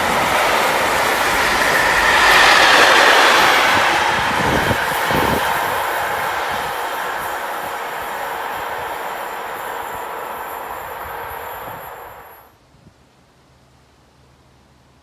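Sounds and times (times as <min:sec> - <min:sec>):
freight train rolling on track: 0:00.0 - 0:12.5.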